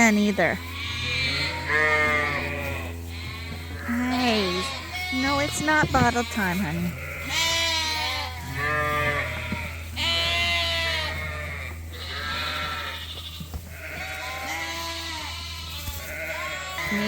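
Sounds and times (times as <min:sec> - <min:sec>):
lambs bleating: 0:00.0 - 0:17.0
steady low hum: 0:00.0 - 0:17.0.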